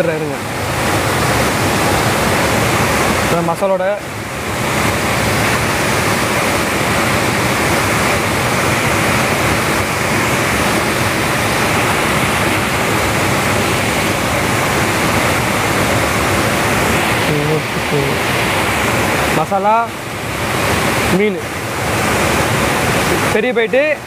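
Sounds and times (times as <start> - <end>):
rushing falling water: 0.0 - 24.0.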